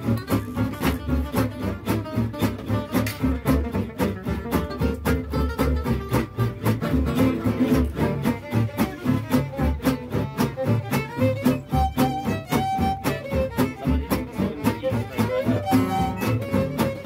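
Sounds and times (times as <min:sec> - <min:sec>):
acoustic guitars strumming: 0:00.0 - 0:17.0
plucked double bass: 0:00.0 - 0:17.0
violin: 0:00.0 - 0:17.0.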